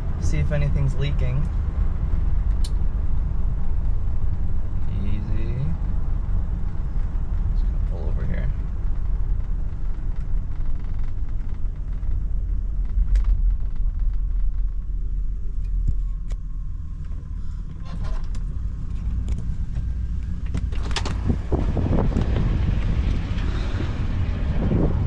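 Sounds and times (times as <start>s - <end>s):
car engine rumble: 0.0s - 25.0s.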